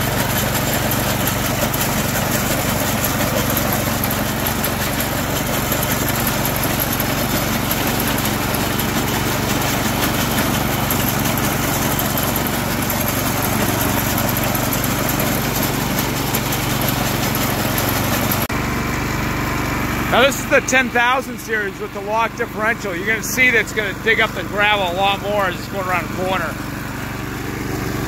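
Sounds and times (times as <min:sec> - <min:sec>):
small snowblower engine running: 0:00.0 - 0:28.0
wheels on gravel: 0:00.0 - 0:28.0.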